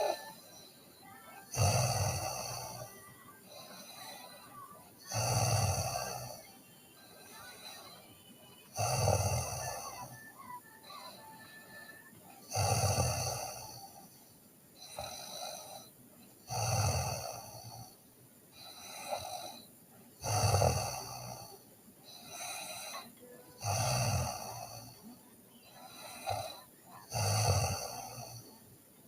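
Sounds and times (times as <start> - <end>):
girl snoring: 0.0 - 14.2, 14.8 - 18.0, 18.6 - 28.6
soft breathing: 0.0 - 28.7.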